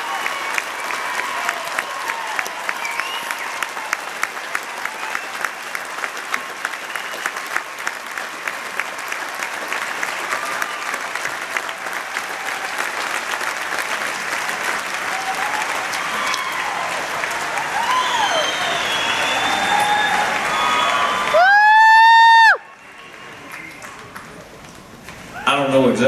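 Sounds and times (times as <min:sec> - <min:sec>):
audience applauding: 0:00.0 - 0:25.9.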